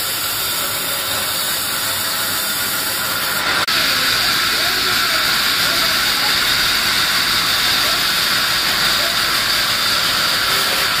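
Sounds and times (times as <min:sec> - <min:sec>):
band saw high-pitched hiss: 0:00.0 - 0:11.0.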